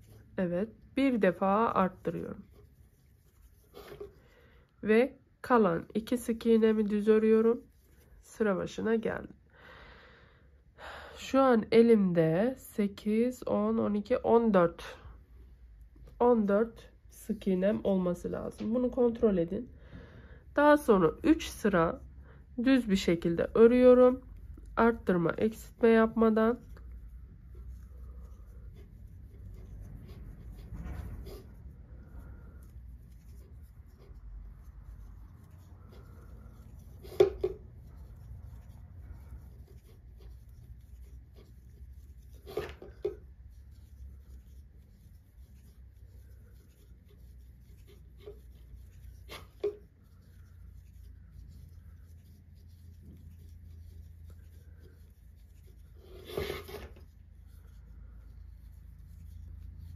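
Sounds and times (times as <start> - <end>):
yarn rustling on crochet hook: 0.0 - 9.3, 13.1 - 19.7, 20.6 - 59.9.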